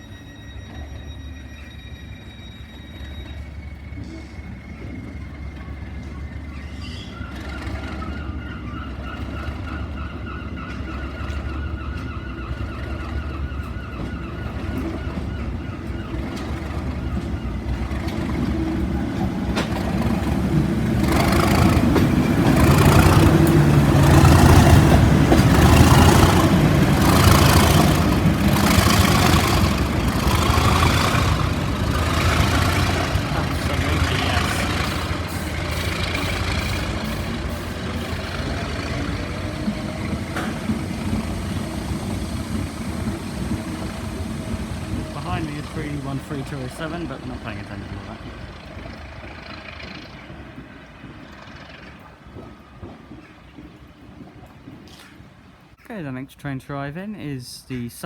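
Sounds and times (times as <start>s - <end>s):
diesel locomotive engine: 0.0s - 58.0s.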